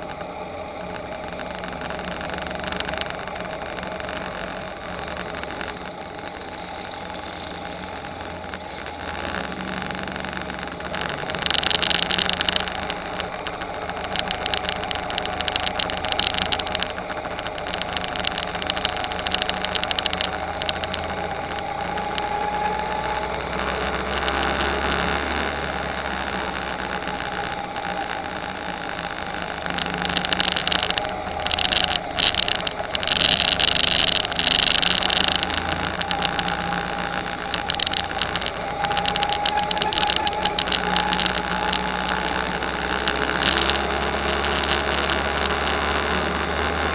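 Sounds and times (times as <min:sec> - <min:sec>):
go-kart engine running: 0:00.0 - 0:46.9
harsh crackling noise: 0:00.0 - 0:46.9.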